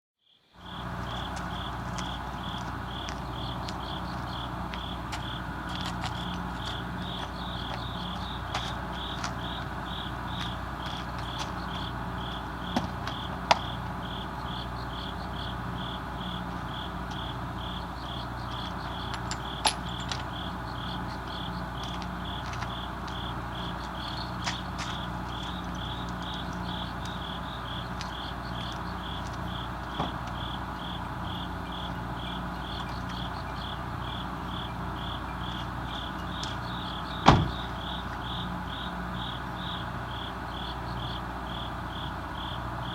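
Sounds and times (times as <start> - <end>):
cricket chirping: 0.2 - 42.9.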